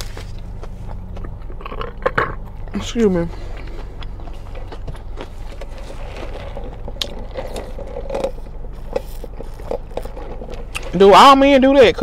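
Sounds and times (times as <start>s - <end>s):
chewing crispy food: 0.0s - 11.0s
car air conditioning hum: 0.0s - 12.0s.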